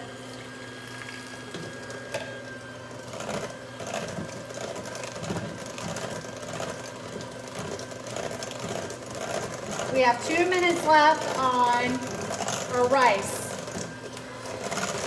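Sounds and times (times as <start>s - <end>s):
electric hand mixer whipping: 0.0s - 15.0s.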